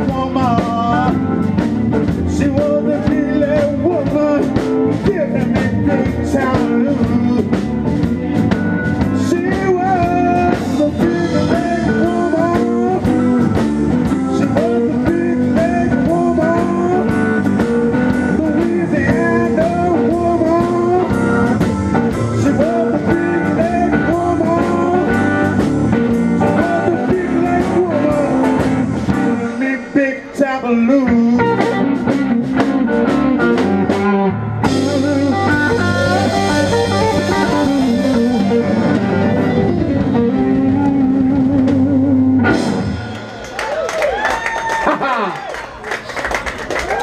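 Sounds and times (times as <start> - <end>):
live blues band playing: 0.0 - 45.1.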